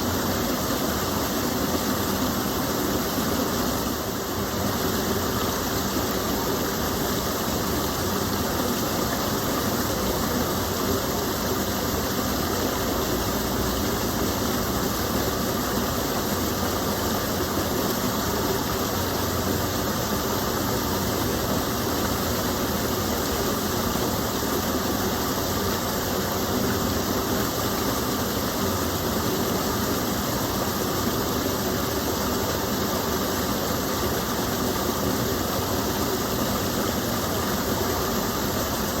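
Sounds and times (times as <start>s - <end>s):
water pouring over small fall: 0.0s - 39.0s.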